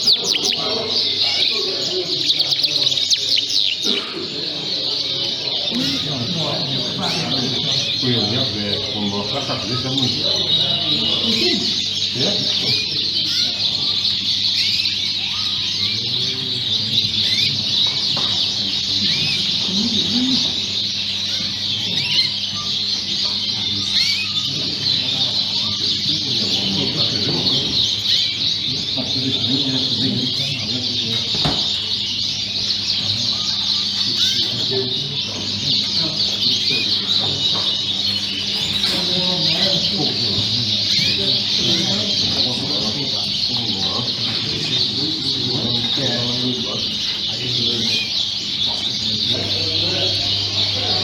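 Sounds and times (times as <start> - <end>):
canaries singing: 0.0 - 51.0
faint people's voices: 0.0 - 51.0.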